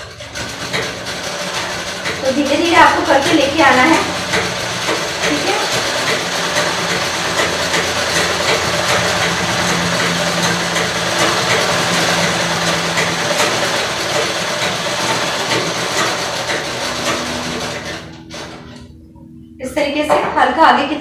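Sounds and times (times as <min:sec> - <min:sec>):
treadle sewing machine clattering: 0:00.0 - 0:19.0.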